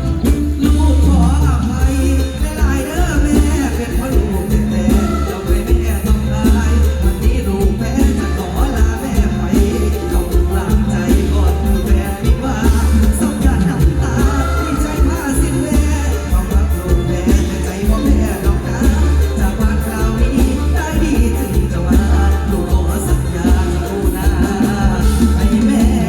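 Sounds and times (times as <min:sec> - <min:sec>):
heavy bass: 0:00.0 - 0:26.0
live band music: 0:00.0 - 0:26.0
person singing melody: 0:00.0 - 0:26.0
steady drum beat: 0:00.0 - 0:26.0.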